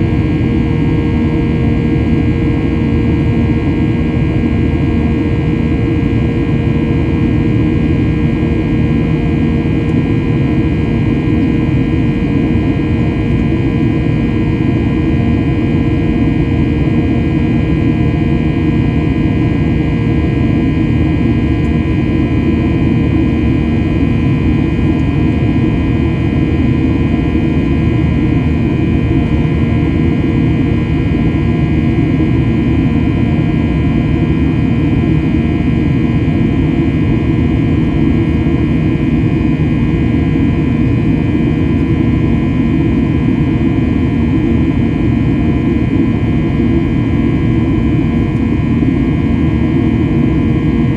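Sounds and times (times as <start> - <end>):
jet engines deep rumble: 0.0 - 50.9.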